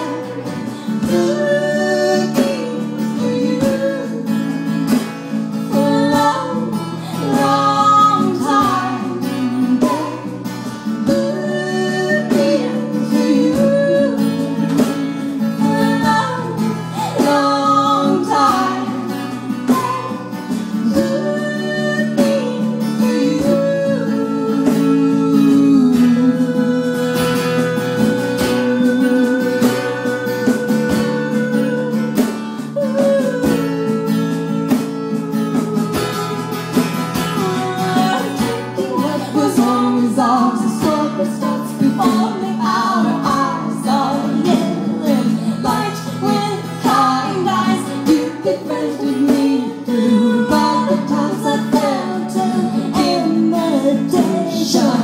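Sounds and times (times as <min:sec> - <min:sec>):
acoustic guitar: 0:00.0 - 0:55.0
women singing: 0:00.0 - 0:55.0.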